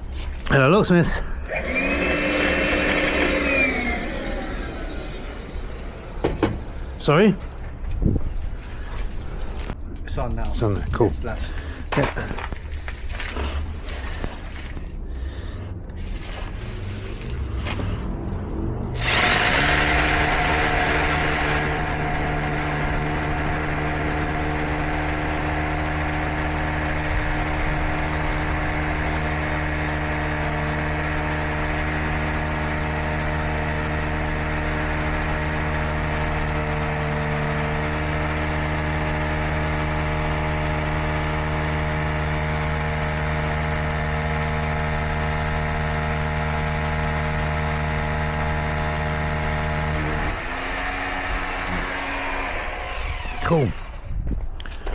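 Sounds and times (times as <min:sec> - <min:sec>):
motor humming steadily: 0:00.0 - 0:09.8, 0:19.0 - 0:54.9.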